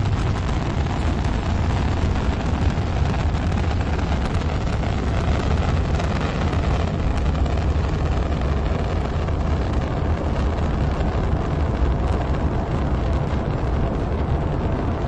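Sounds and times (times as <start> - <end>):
rocket launch roar: 0.0 - 15.0.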